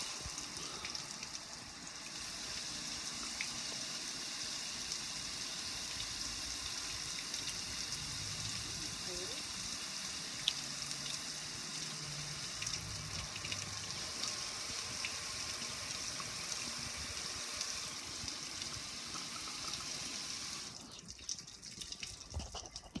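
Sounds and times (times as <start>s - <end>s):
water drips and splashes: 0.0s - 23.0s.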